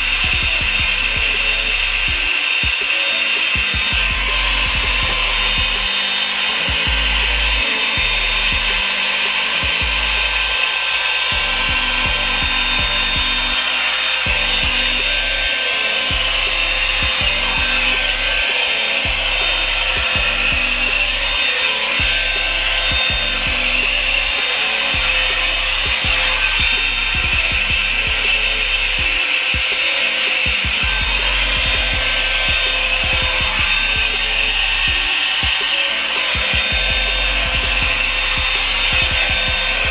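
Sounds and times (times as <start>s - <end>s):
background music: 0.0s - 39.9s
blow-dryer brush rushing air: 0.0s - 39.9s.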